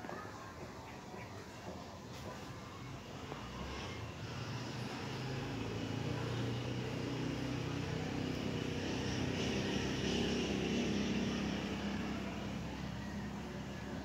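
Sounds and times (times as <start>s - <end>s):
outdoor background noise: 0.0s - 14.0s
distant engine drone: 0.8s - 14.0s.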